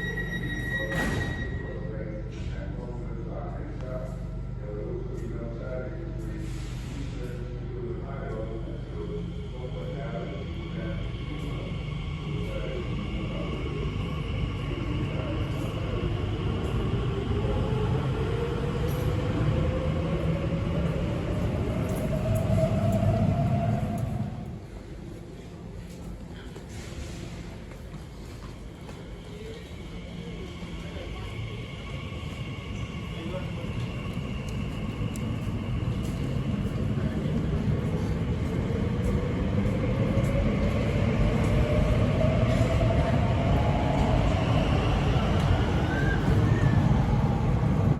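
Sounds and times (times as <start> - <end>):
electric train rumble: 0.0 - 47.9.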